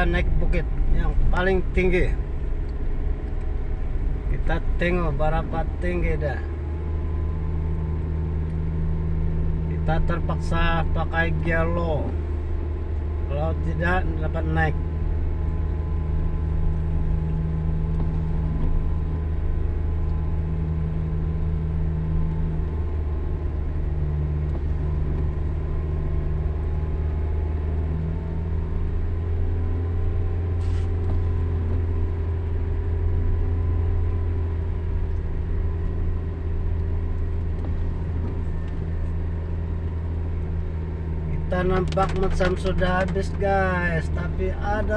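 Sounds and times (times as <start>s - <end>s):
car engine pulling uphill: 0.0s - 44.9s.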